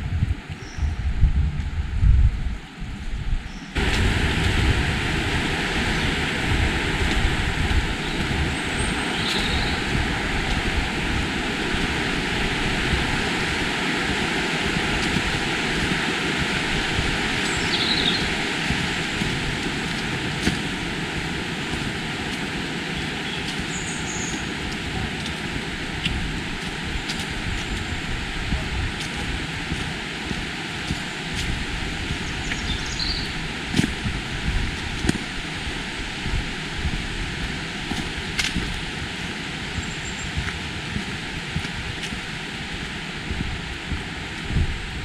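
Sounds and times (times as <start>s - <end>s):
wind buffeting microphone: 0.0s - 45.0s
river water rushing: 3.8s - 45.0s.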